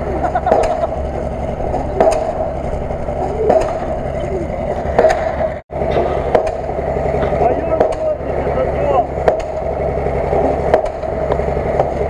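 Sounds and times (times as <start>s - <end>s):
car engine running hard: 0.0s - 12.0s
sharp knocks: 0.5s - 8.2s, 9.2s - 9.7s, 10.4s - 12.0s.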